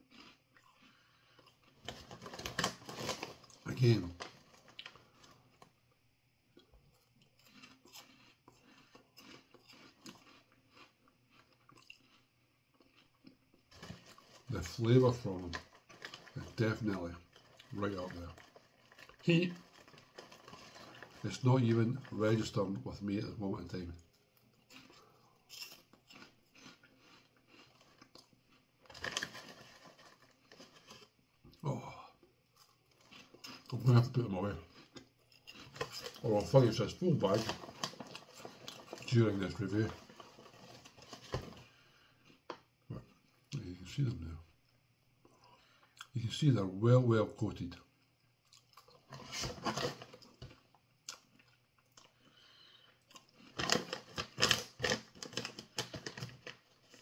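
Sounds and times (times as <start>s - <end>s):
chewing crunchy snacks: 0.0s - 5.8s, 6.5s - 43.6s, 48.0s - 57.0s.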